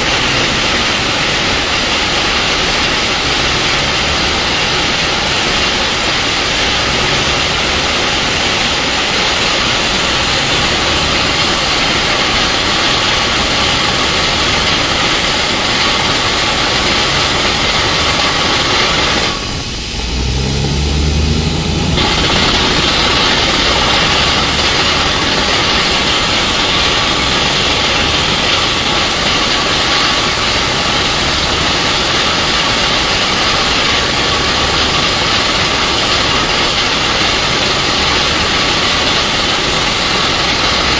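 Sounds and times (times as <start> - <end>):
diesel engine low hum: 0.0 - 40.9
loud rush of air: 0.0 - 40.9.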